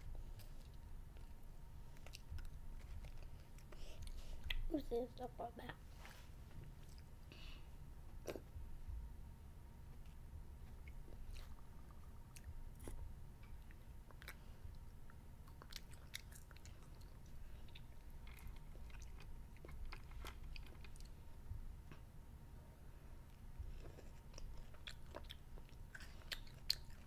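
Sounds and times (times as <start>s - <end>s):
child chewing candy: 0.0s - 4.7s, 6.6s - 7.5s, 8.2s - 8.6s, 9.9s - 22.0s, 23.2s - 27.0s.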